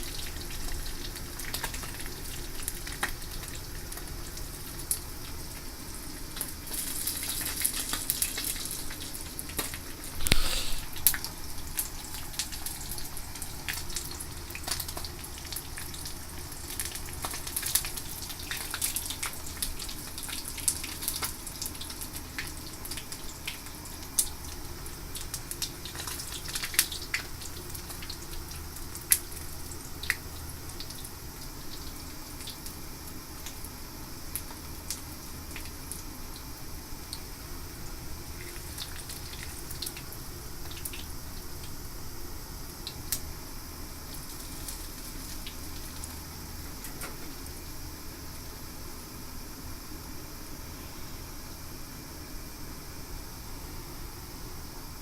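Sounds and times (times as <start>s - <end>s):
fish sizzling in oil: 0.0s - 55.0s.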